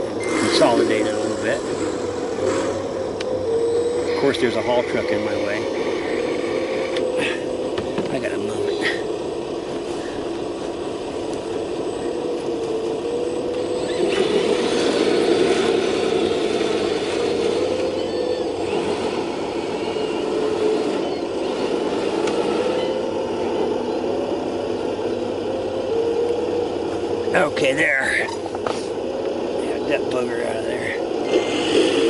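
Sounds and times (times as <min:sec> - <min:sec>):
electric motor whining: 0:00.0 - 0:32.0.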